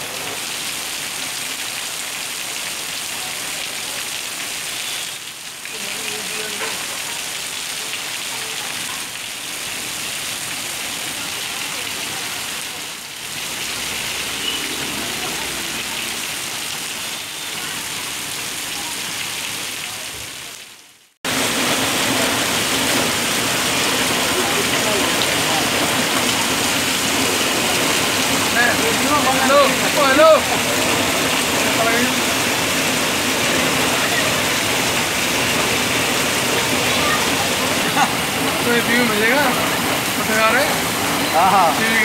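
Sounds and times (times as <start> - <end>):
heavy rain on pavement: 0.0 - 42.0.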